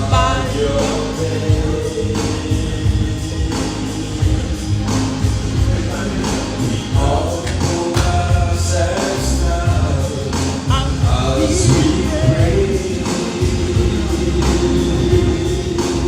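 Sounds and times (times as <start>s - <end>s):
band with steady bass beat: 0.0s - 16.0s
choir singing gospel: 0.0s - 16.0s.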